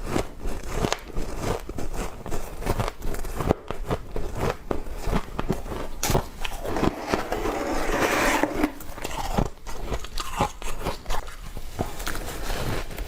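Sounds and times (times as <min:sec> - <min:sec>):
frost crunching as it is chewed: 0:00.0 - 0:06.9, 0:08.9 - 0:13.0.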